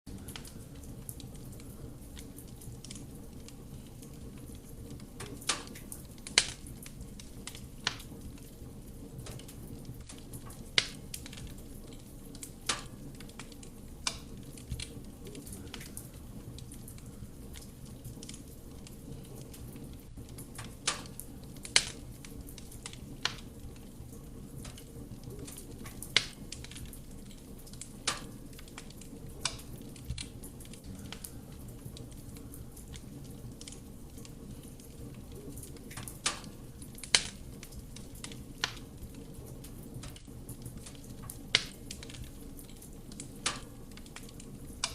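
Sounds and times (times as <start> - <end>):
burning wood crackling and popping: 0.1 - 44.9
fire flame rumble: 0.1 - 44.9.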